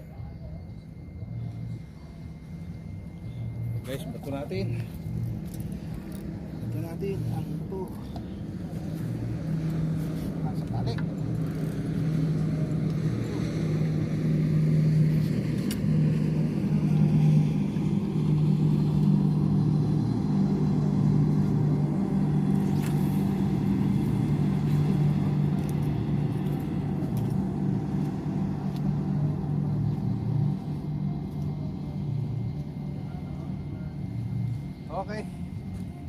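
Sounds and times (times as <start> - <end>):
low engine drone: 0.0 - 36.0.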